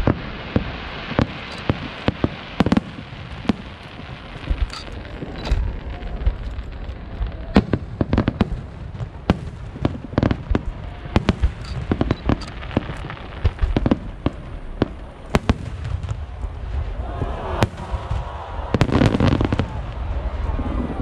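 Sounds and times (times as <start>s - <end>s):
fireworks bursting with bangs: 0.0s - 21.0s.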